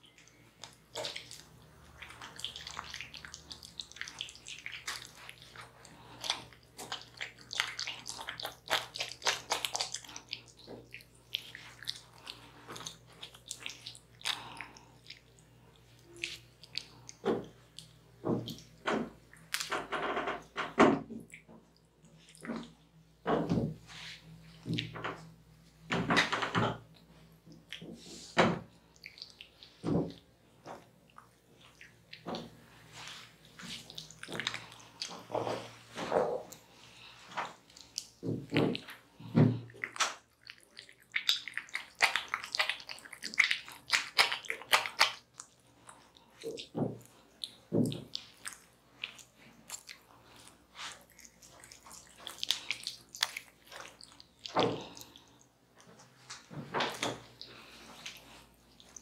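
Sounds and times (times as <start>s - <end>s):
hands squishing on wet skin: 0.0s - 20.3s, 26.9s - 59.0s.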